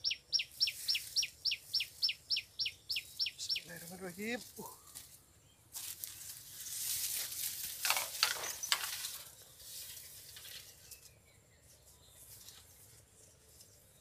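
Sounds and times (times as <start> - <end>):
rustling dry reeds and grass: 0.0 - 14.0.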